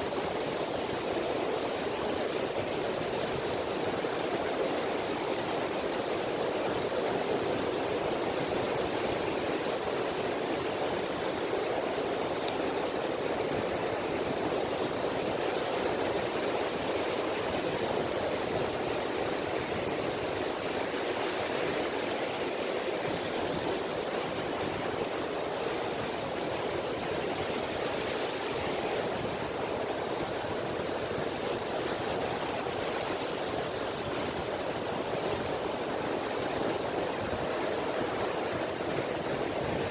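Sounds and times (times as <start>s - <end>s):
sea ripples lapping at beach: 0.0s - 39.9s.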